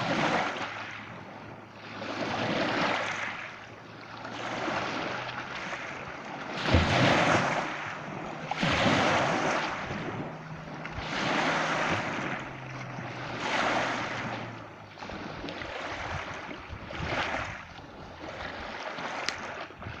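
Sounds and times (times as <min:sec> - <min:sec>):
sea waves breaking: 0:00.0 - 0:20.0.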